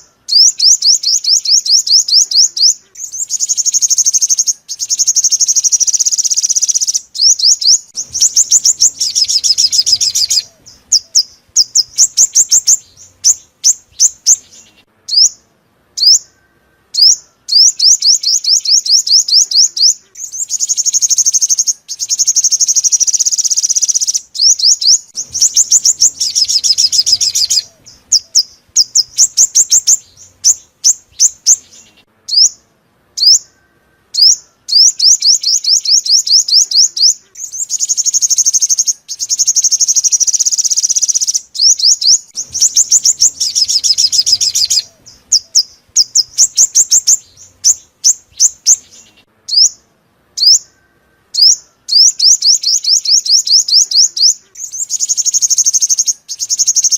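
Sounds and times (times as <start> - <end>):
bird trilling: 0.0 - 15.4, 16.0 - 32.6, 33.2 - 49.8, 50.4 - 56.9
sharp bird chip notes: 0.0 - 15.4, 17.0 - 32.6, 34.2 - 49.8.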